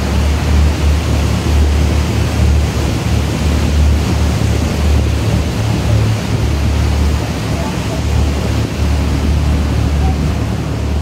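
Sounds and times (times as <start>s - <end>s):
boat rushing through water: 0.0s - 11.0s
wind gusting on microphone: 0.0s - 11.0s.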